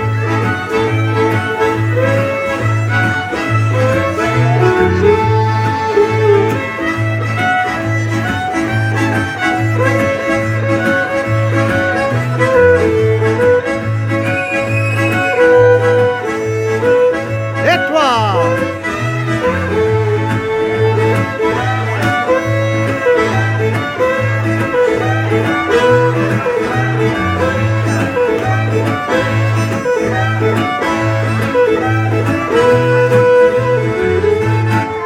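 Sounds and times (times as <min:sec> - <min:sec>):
acoustic guitar: 0:00.0 - 0:35.0
button accordion: 0:00.0 - 0:35.0
fiddle: 0:00.0 - 0:35.0.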